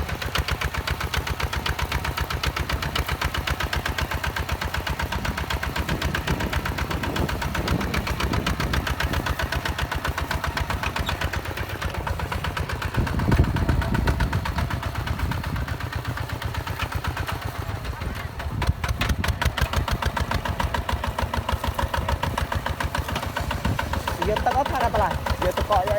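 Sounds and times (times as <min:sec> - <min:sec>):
diesel engine chugging: 0:00.0 - 0:25.9.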